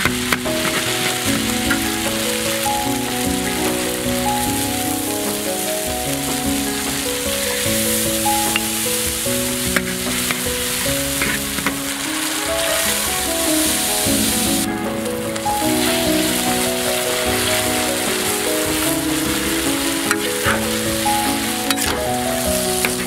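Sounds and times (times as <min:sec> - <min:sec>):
food sizzling in hot oil: 0:00.0 - 0:23.0
soft background music: 0:00.0 - 0:23.0.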